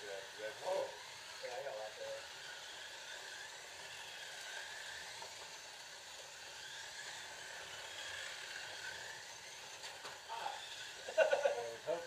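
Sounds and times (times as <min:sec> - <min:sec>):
slot car motor whine: 0:00.0 - 0:12.0.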